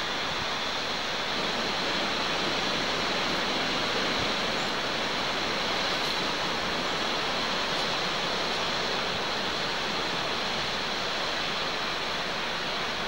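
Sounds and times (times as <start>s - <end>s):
waves breaking on shore: 1.3s - 13.0s.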